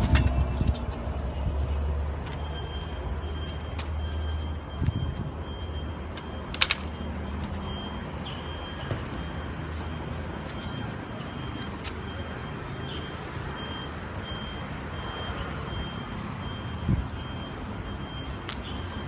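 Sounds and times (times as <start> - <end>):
reversing alarm beeping: 0.0 - 19.0.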